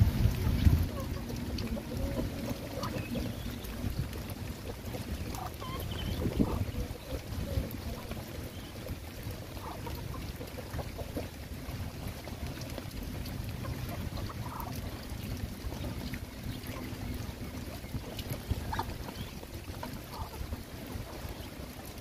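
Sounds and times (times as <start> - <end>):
rain falling: 0.0 - 22.0
wind rumbling on microphone: 0.0 - 22.0.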